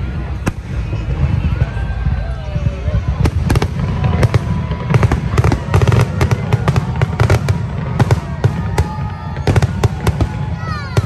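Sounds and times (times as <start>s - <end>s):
fireworks cracking and banging: 0.0s - 11.0s.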